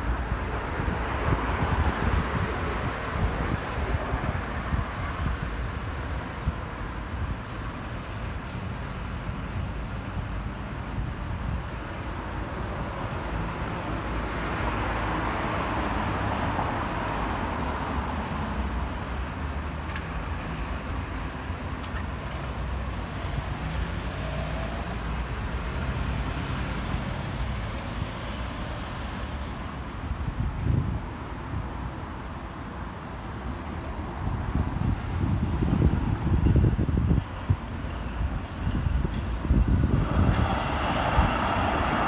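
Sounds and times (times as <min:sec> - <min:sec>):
road traffic: 0:00.0 - 0:42.0.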